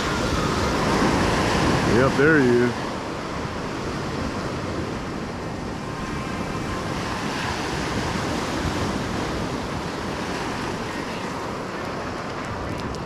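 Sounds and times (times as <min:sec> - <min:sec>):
ocean surf on sand: 0:00.0 - 0:13.0.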